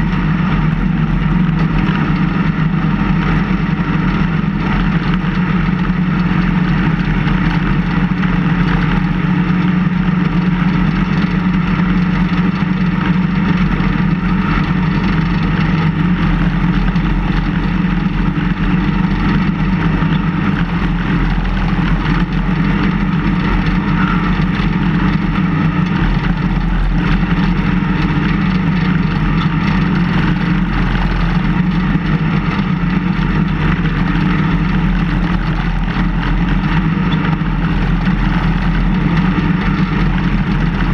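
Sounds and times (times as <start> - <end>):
plow blade pushing snow: 0.0 - 40.9
snow plow engine running: 0.0 - 40.9.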